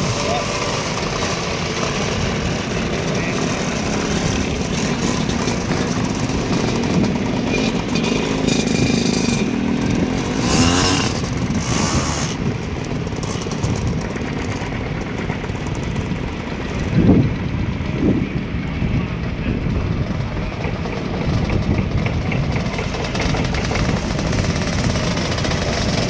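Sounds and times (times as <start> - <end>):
scooter engines buzzing past: 0.0 - 16.2, 20.1 - 26.0.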